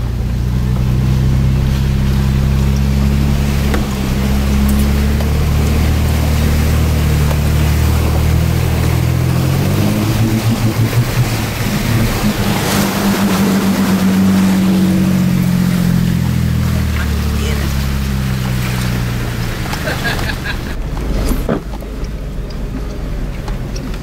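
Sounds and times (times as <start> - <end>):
off-road truck engine running: 0.0 - 24.0
water splash: 0.0 - 24.0
water washing around vehicle: 0.0 - 24.0.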